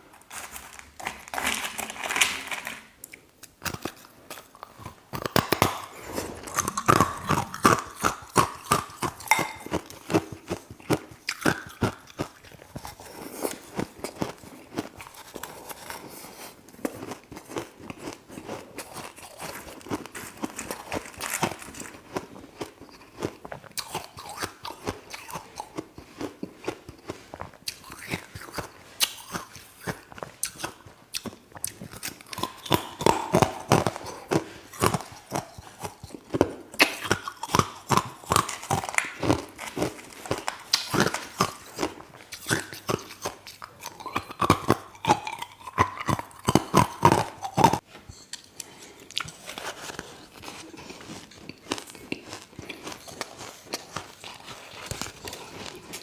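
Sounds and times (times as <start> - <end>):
chewing and crunching ice: 0.0 - 56.0.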